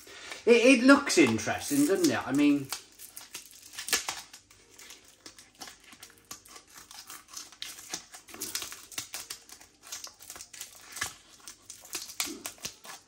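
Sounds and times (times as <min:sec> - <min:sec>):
plastic wrapping crinkling: 0:00.0 - 0:13.0
scissors cutting plastic: 0:01.1 - 0:13.0.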